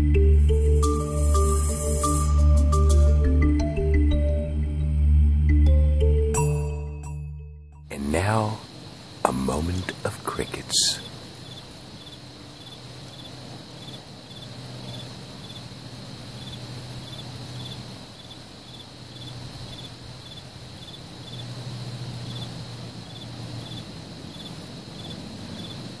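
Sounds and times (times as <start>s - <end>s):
high insect hiss: 0.0s - 6.8s, 7.9s - 26.0s
cricket chirping: 0.0s - 26.0s.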